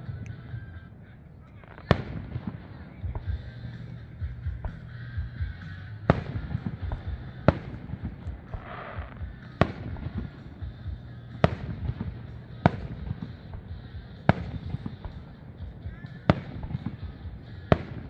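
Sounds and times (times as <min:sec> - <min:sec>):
fireworks booming: 0:00.0 - 0:18.0
fireworks crackling pops: 0:01.4 - 0:18.0.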